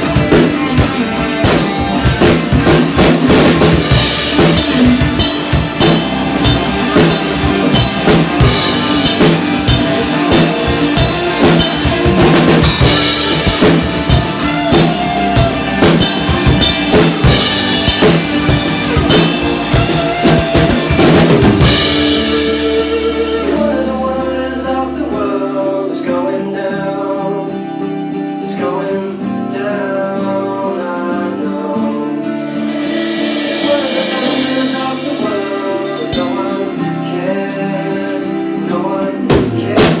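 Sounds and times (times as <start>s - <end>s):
busy drum kit: 0.0s - 24.6s, 32.2s - 40.0s
full band playing: 0.0s - 25.4s, 32.2s - 40.0s.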